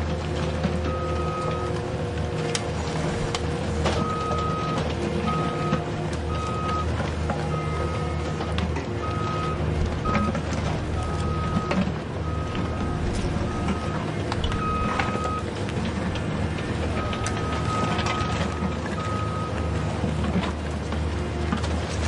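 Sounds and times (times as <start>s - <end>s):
high motor whine: 0.0s - 22.0s.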